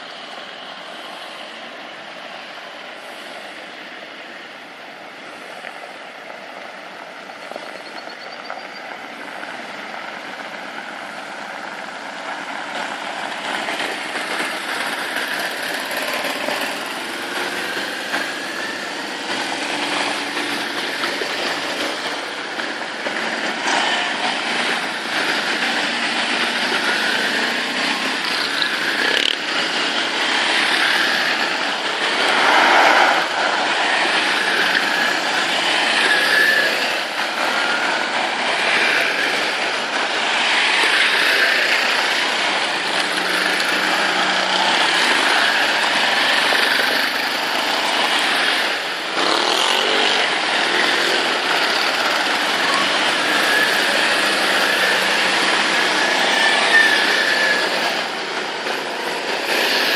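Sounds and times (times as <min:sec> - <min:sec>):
quad engines passing on gravel: 0:05.0 - 0:59.9
engines revving: 0:09.1 - 0:59.9.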